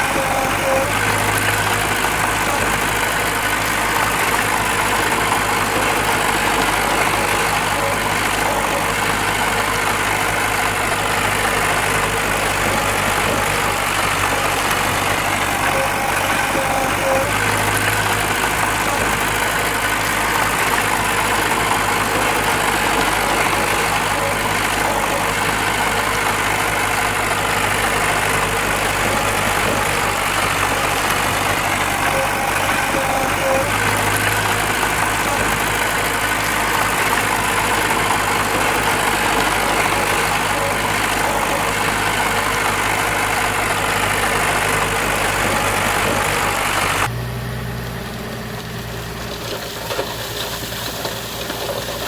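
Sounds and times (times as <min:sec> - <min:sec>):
heavy machinery diesel engine running: 0:00.0 - 0:52.0.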